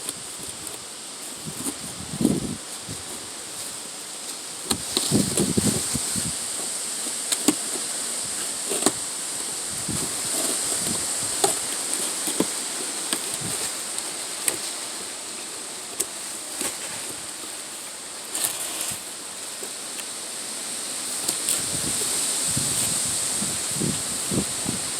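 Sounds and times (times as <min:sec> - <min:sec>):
boxes and plastic parts handled: 0:00.0 - 0:20.2
steady high-pitched hiss: 0:00.0 - 0:24.9.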